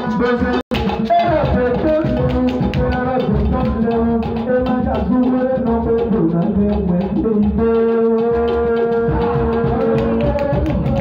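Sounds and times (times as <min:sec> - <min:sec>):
percussion beat: 0:00.0 - 0:11.0.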